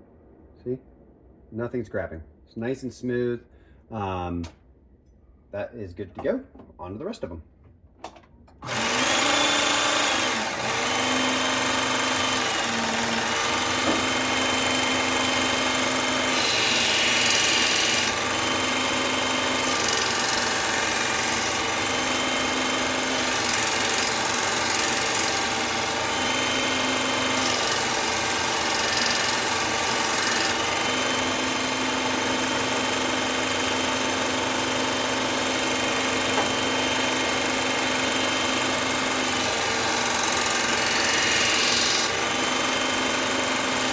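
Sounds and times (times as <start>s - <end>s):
electric belt sharpener humming: 8.6s - 43.9s.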